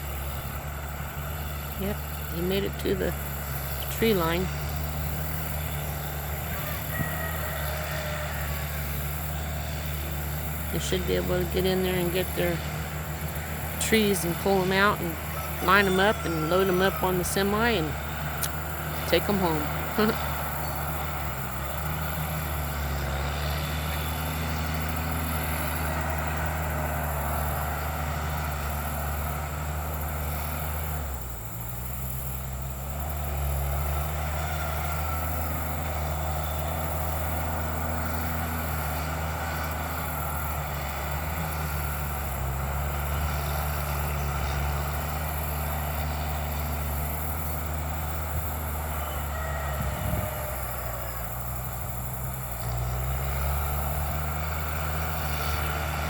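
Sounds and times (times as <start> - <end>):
bulldozer engine running: 0.0 - 56.0.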